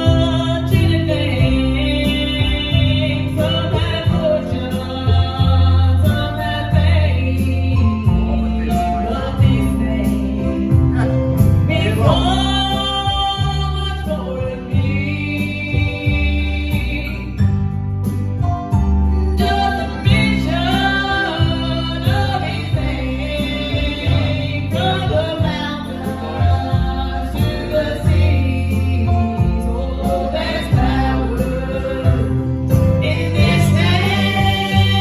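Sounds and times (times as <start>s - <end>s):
group singing gospel song: 0.0s - 17.4s, 19.2s - 35.0s
instrumental accompaniment with bass: 0.0s - 35.0s.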